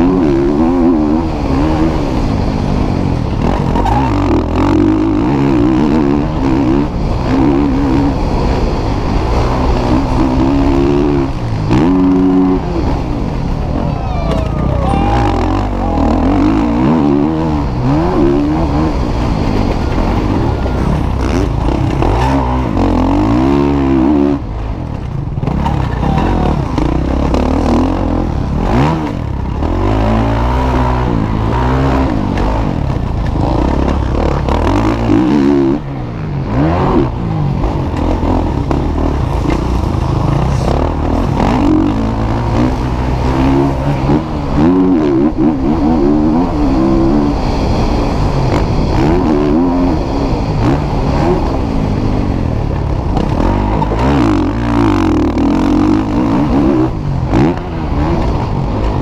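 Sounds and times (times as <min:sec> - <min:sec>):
motocross bike engines revving: 0:00.0 - 0:59.0.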